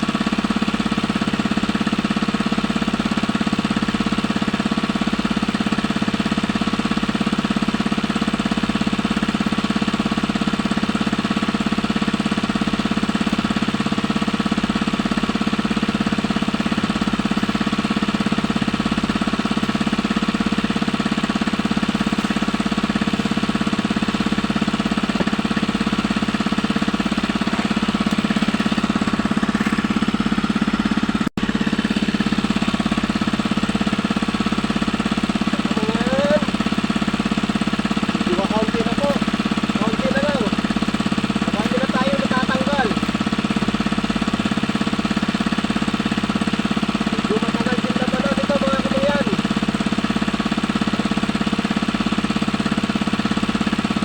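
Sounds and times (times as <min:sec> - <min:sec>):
small engine knocking steadily: 0:00.0 - 0:54.0.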